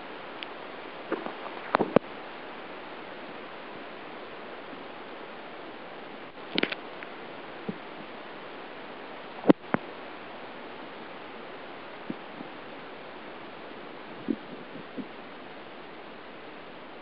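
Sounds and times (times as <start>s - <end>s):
underwater stream rushing: 0.0s - 17.0s.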